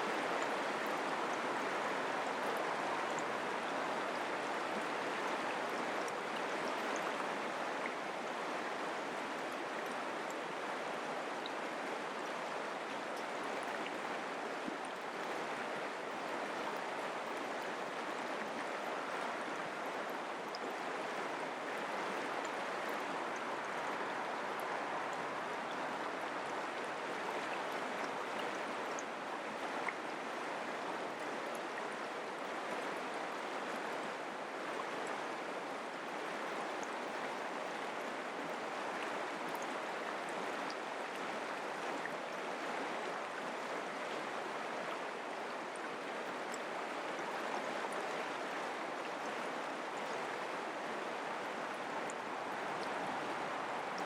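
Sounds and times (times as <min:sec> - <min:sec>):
creek water rushing: 0:00.0 - 0:54.0
faint water splashes: 0:00.0 - 0:54.0.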